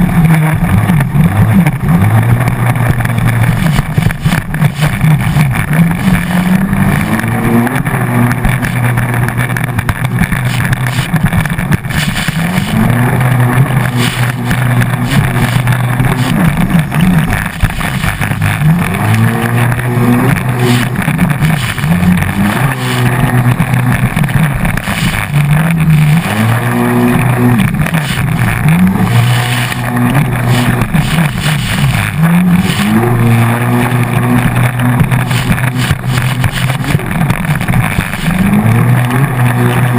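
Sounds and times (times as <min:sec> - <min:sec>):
jet ski engine revving: 0:00.0 - 0:39.9
rush of water and wind: 0:00.0 - 0:39.9.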